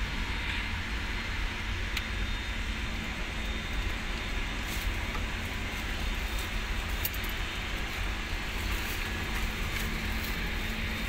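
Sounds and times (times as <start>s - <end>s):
faint steady hum: 0.0s - 11.0s
low rumble and hiss: 0.0s - 11.0s.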